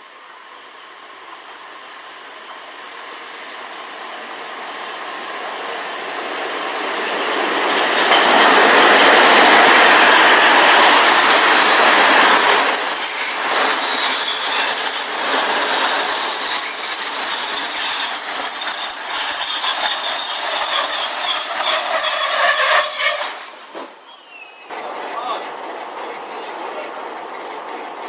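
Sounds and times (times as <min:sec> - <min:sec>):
train wheels squealing: 0:00.4 - 0:02.0, 0:06.4 - 0:28.0.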